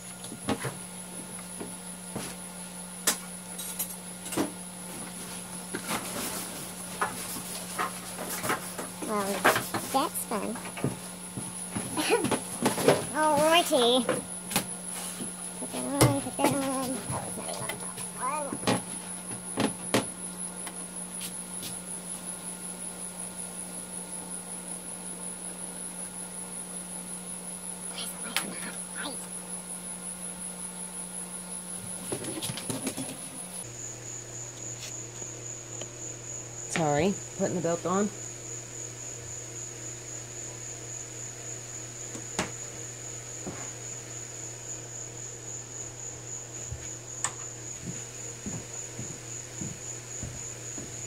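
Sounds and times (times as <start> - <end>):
background hum: 0.0 - 51.0.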